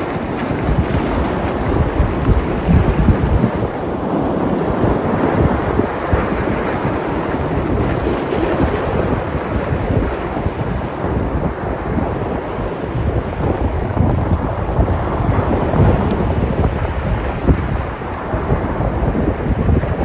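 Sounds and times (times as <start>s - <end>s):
surf breaking on the shore: 0.0s - 20.0s
wind buffeting the microphone: 0.0s - 20.0s.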